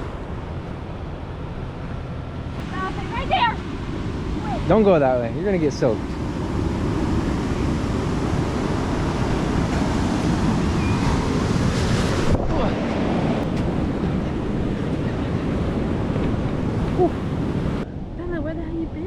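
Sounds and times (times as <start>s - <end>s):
ocean surf breaking: 0.0s - 18.9s
wind buffeting microphone: 0.0s - 19.0s.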